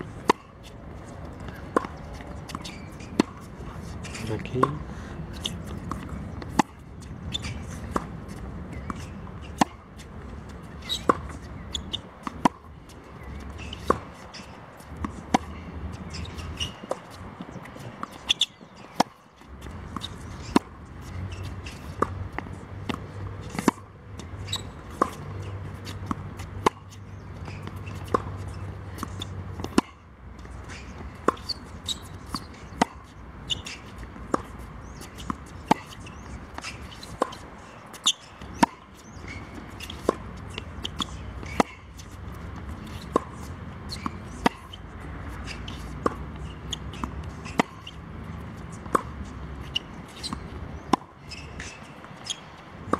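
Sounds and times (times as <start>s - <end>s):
tennis ball bouncing on court: 0.0s - 52.9s
racket hitting tennis ball: 0.2s - 52.9s.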